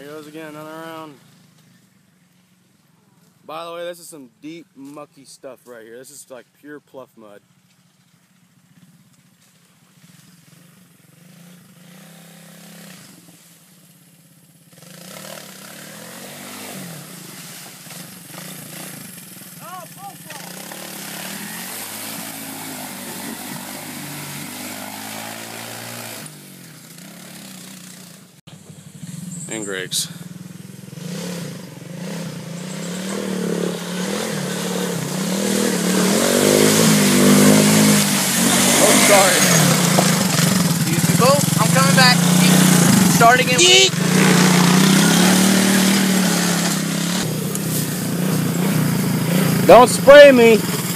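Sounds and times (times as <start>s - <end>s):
engine running and revving: 8.6s - 50.9s.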